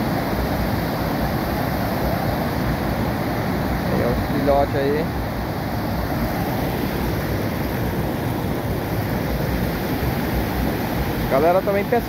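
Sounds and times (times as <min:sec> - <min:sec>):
low wind rumble on microphone: 0:00.0 - 0:12.0
river roaring over rapids: 0:00.0 - 0:12.0.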